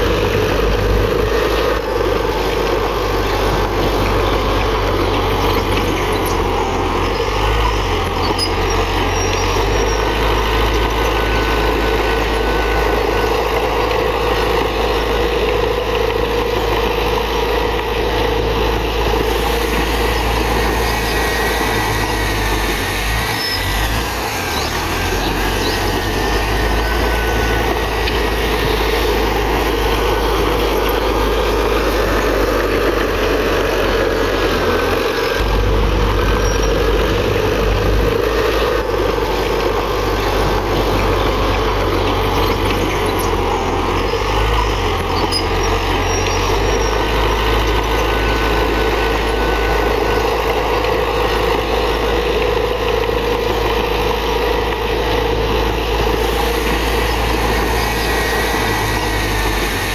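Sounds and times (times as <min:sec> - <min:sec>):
bulldozer diesel engine rumbling: 0:00.0 - 0:59.9.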